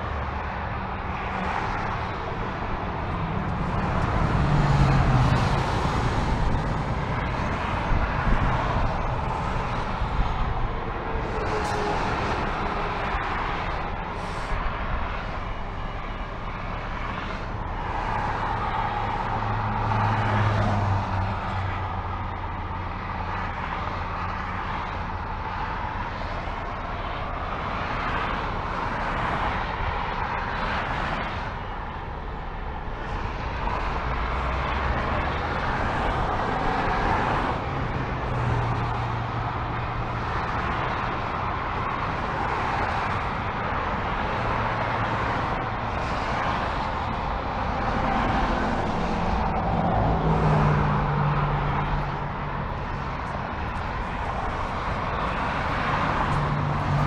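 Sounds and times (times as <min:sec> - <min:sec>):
freeway traffic passing: 0:00.0 - 0:57.0
truck engine hum: 0:00.0 - 0:57.0.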